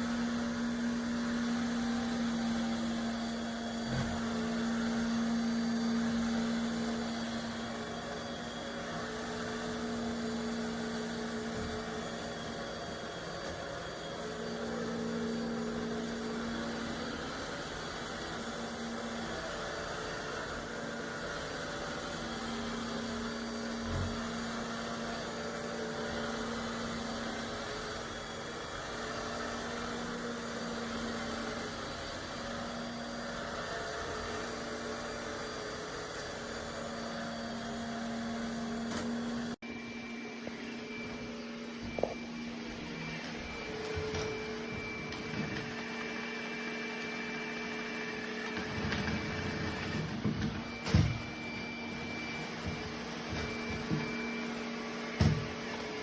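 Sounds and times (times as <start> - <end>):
robot vacuum motor hum: 0.0 - 56.0.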